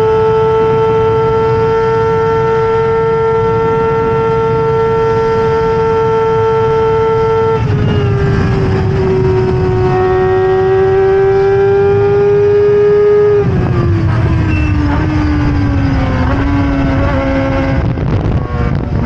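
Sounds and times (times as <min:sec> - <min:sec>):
racing car engine at high revs: 0:00.0 - 0:19.0.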